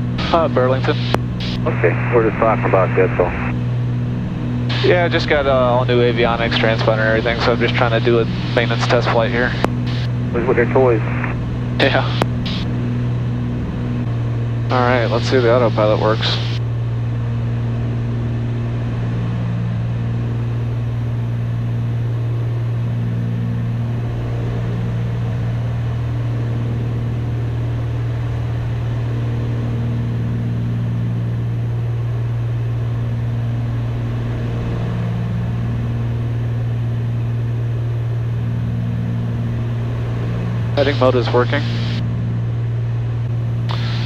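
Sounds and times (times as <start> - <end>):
aircraft engine drone in cabin: 0.0 - 44.0.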